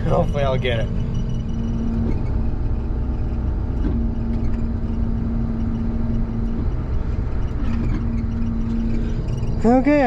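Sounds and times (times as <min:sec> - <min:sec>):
combine engine rumbling: 0:00.0 - 0:10.0
steady hum: 0:00.0 - 0:10.0.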